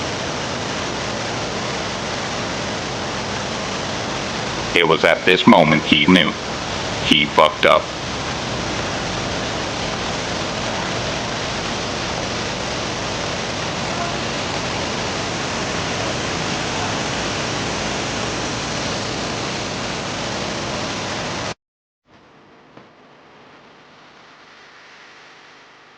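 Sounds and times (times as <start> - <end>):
waterfall rushing: 0.1 - 21.3.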